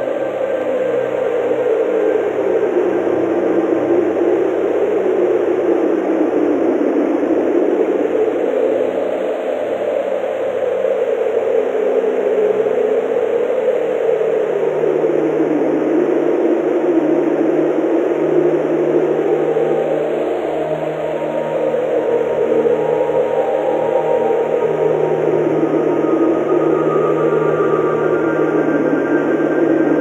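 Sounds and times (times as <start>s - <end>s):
wind howling through trees: 0.0s - 30.0s.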